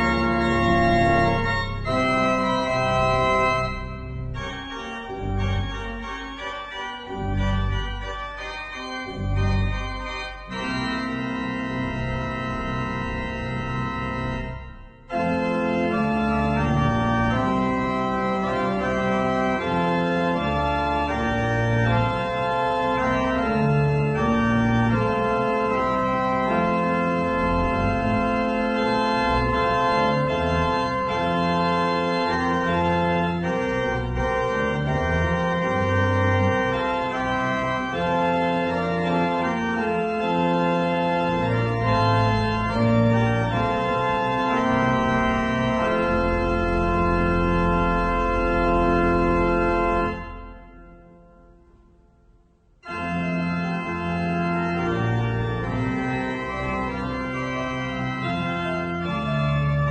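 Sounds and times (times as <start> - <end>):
organ playing chords: 0.0 - 59.9.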